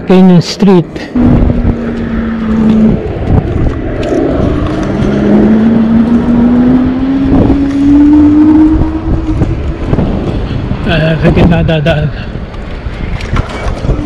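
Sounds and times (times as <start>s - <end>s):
wind and road rumble: 0.0s - 14.0s.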